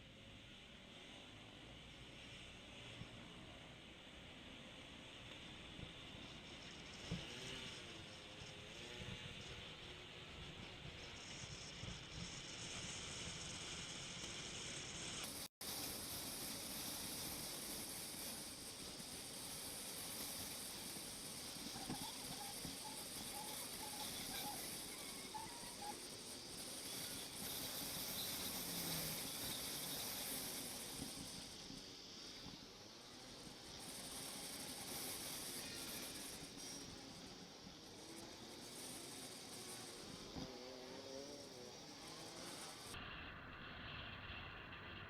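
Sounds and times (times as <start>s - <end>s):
wind hiss on helmet microphone: 0.0s - 43.5s
motorcycle road noise: 0.0s - 45.0s.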